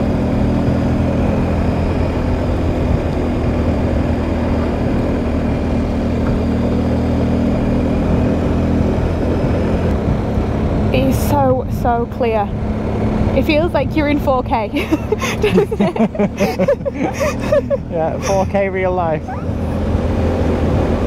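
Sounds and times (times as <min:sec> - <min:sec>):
wind noise: 0:00.0 - 0:14.2, 0:15.0 - 0:21.0
motorcycle engine running: 0:00.0 - 0:21.0
road noise: 0:00.0 - 0:21.0.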